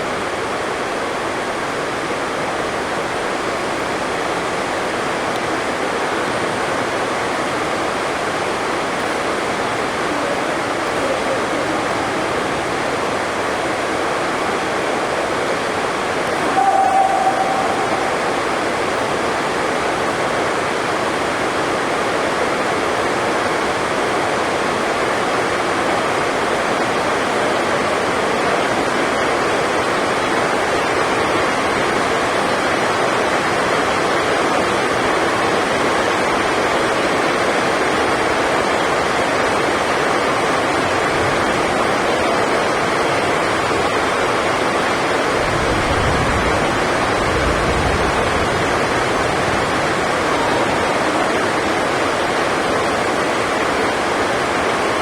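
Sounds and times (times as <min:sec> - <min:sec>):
heavy rain drumming on roof: 0:00.0 - 0:16.4, 0:19.6 - 0:55.0.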